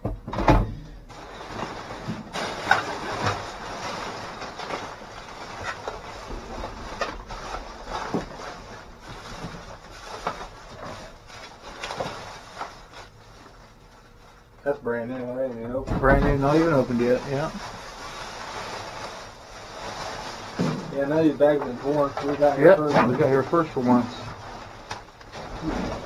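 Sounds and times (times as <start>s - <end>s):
plastic bags rustling: 1.1s - 14.6s, 15.7s - 26.0s.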